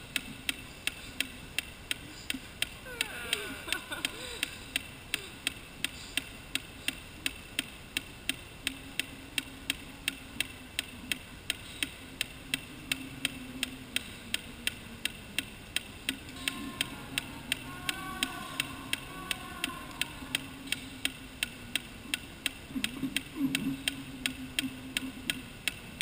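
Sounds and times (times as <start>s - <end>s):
faint low hum: 0.0s - 26.0s
steady ticking clicks: 0.0s - 26.0s.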